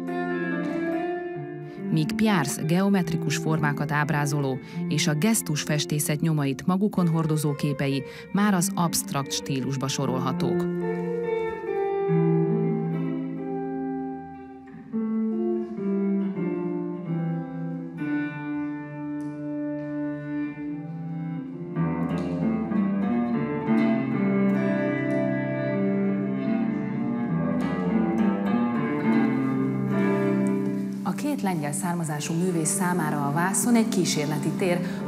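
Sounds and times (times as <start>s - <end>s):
instrumental background music: 0.0s - 35.0s.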